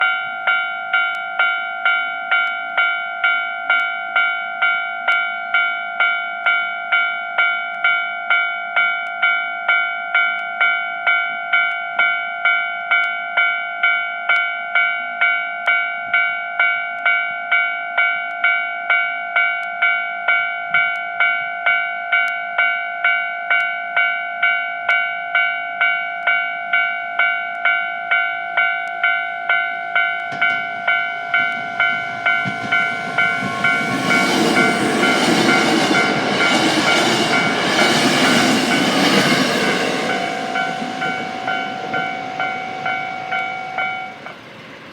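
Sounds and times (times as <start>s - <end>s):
level-crossing warning bell: 0.0s - 44.9s.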